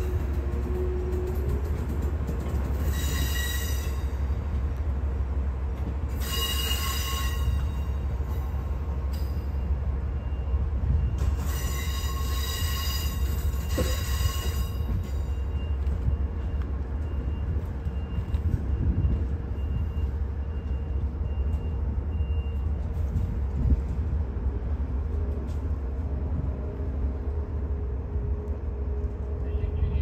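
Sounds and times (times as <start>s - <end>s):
train wheels squealing on rails: 0.0s - 4.8s, 5.7s - 25.9s.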